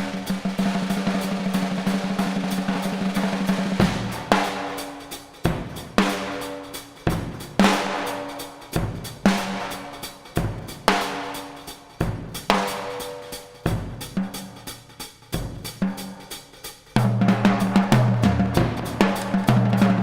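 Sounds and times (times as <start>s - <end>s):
drum roll: 0.0s - 20.0s.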